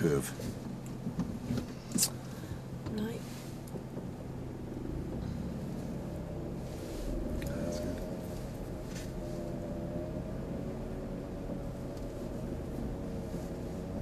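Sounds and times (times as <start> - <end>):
car engine and road hum: 0.0 - 14.0
faint whine: 0.0 - 14.0.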